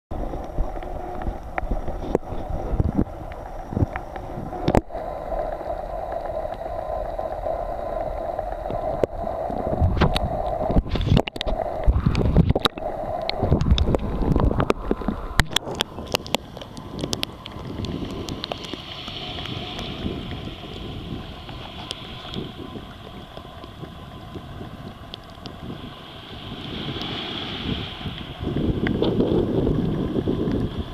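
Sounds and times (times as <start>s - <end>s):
muffled underwater rumbling: 0.1s - 30.9s
wind on microphone: 0.1s - 30.9s.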